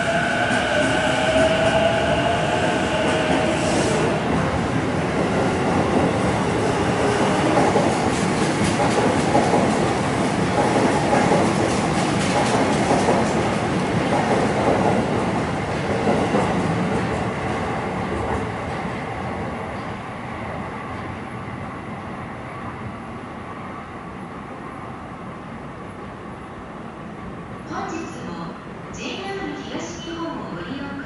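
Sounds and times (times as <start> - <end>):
train wheels rumbling on rail: 0.0 - 27.7.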